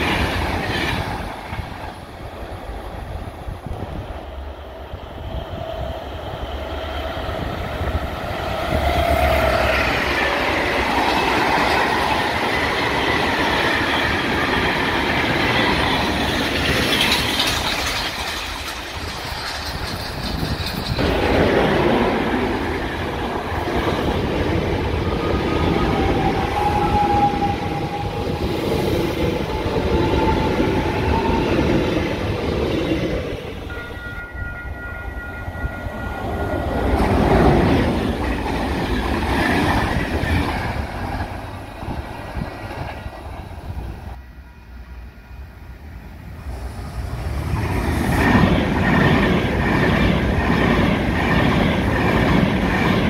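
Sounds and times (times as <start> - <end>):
electric train passing: 0.0 - 53.0
freight train passing: 0.0 - 53.0.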